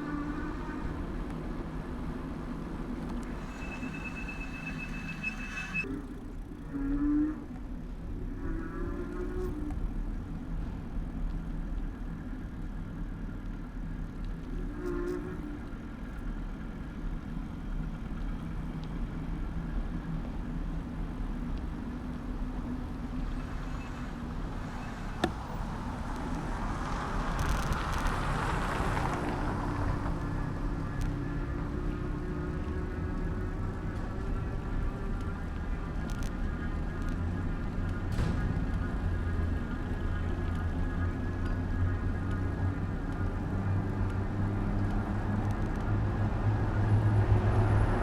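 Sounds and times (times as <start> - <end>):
low moaning tones: 0.0 - 11.0, 14.4 - 48.0
low riding rumble: 0.0 - 48.0
passing traffic: 0.0 - 48.0.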